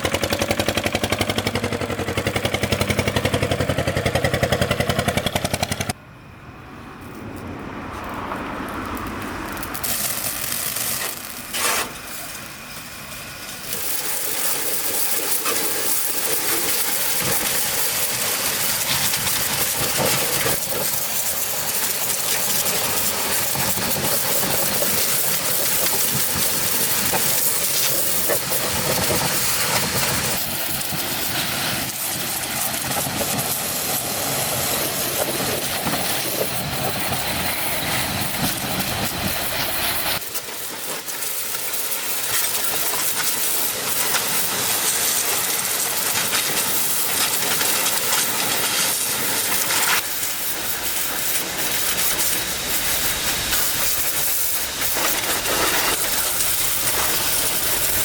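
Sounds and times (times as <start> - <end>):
loud machine noise with hiss: 0.0 - 6.0, 8.8 - 58.0.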